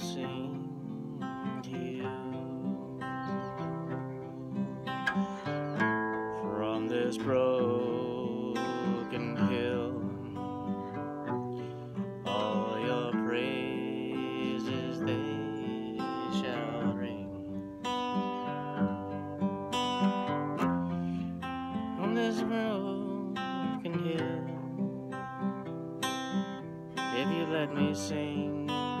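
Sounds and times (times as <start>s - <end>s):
acoustic guitar: 0.0s - 29.0s.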